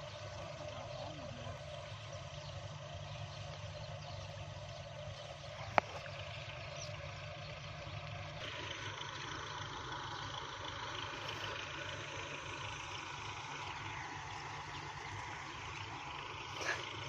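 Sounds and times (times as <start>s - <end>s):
distant engine hum: 0.0s - 17.0s.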